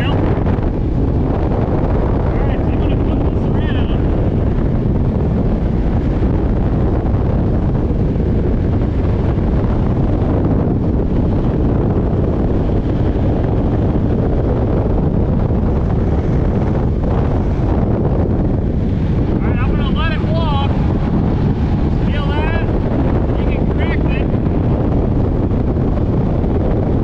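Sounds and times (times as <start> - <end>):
boat rushing across water: 0.0 - 27.0
wind buffeting microphone: 0.0 - 27.0.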